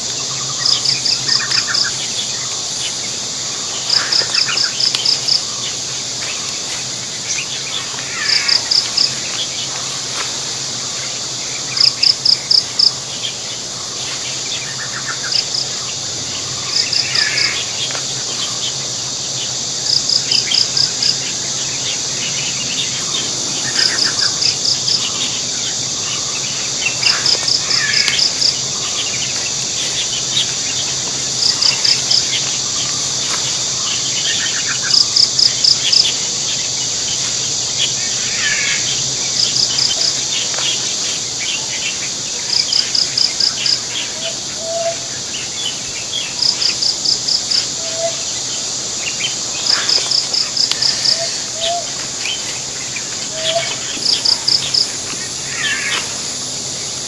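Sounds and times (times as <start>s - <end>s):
high insect drone: 0.0s - 57.0s
pulsed insect chirp: 0.0s - 57.0s.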